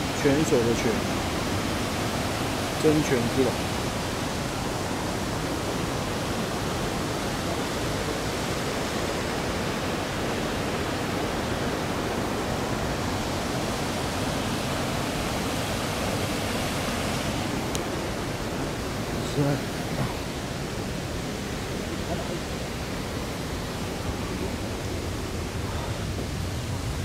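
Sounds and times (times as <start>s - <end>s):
waterfall rushing over rock: 0.0s - 27.0s.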